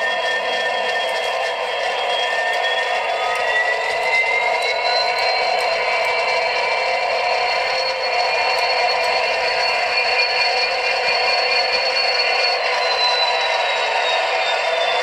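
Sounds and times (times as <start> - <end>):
model locomotive humming: 0.0 - 15.0.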